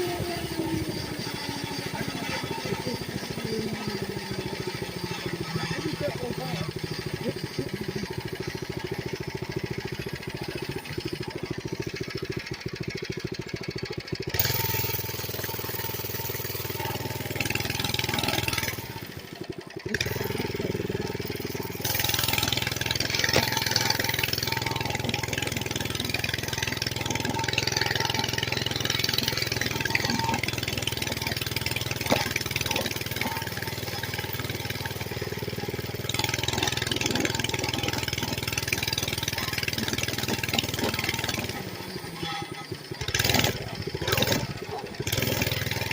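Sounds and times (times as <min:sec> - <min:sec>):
small motorbike engine running: 0:00.0 - 0:45.9.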